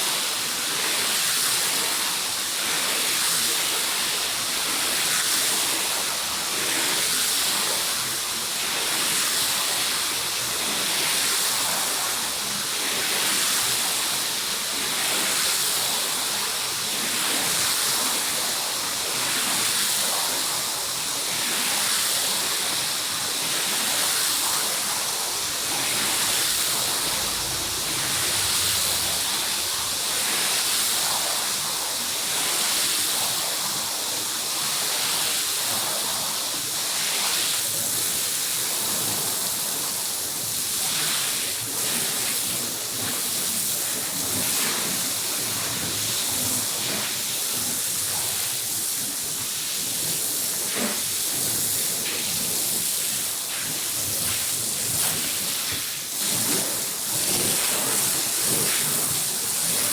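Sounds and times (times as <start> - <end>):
rushing hissing water carpet washing: 0.0 - 59.9.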